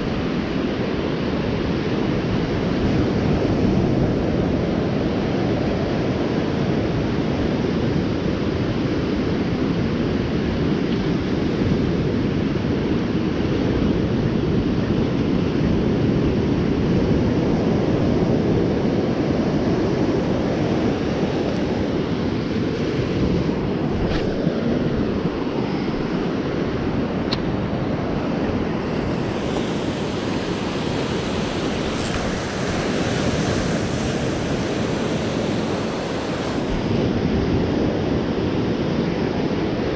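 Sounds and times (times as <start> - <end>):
surf washing up beach: 0.0 - 39.9
wind buffeting microphone: 0.0 - 39.9.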